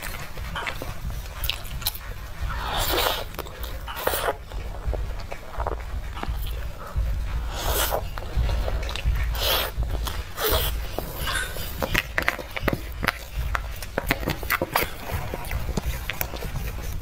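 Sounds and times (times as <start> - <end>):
wet mouth eating sounds: 0.0 - 17.0.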